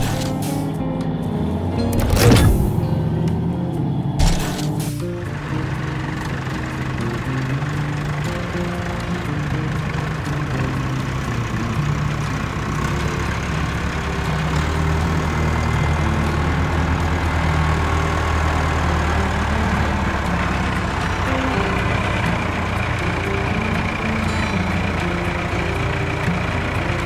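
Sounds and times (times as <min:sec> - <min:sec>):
heavy vehicle engine humming: 0:00.0 - 0:27.0.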